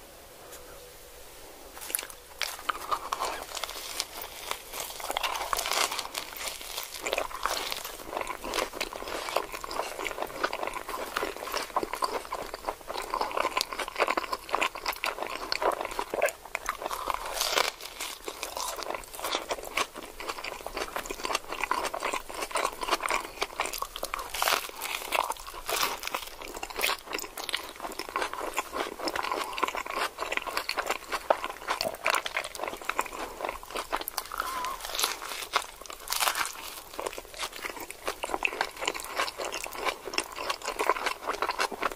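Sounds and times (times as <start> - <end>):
crunchy taco shells being chewed: 1.8 - 41.9.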